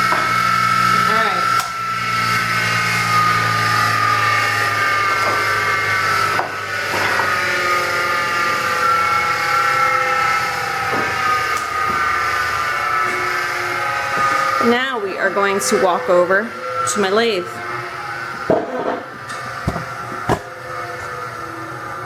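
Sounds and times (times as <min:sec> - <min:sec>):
motor hum: 0:00.0 - 0:22.0
bench grinder whine falling: 0:01.6 - 0:21.2.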